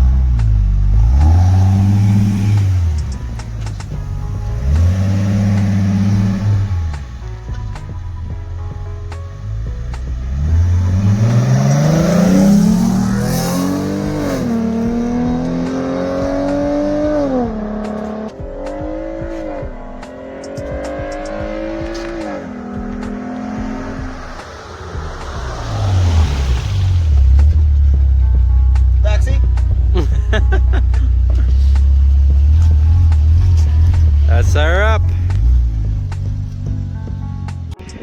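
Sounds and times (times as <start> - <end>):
car engine accelerating through gears: 0.0 - 37.8.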